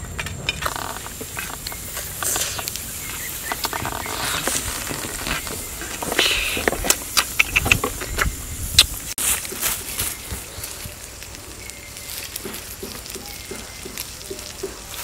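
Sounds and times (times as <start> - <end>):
grubs sizzling in pan: 0.6 - 7.4, 8.0 - 15.0.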